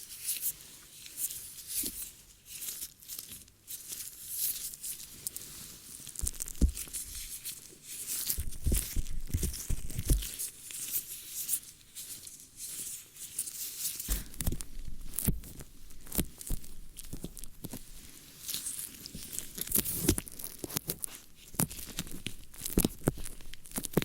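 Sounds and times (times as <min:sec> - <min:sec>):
scratching and crinkly rustling: 0:00.0 - 0:24.0.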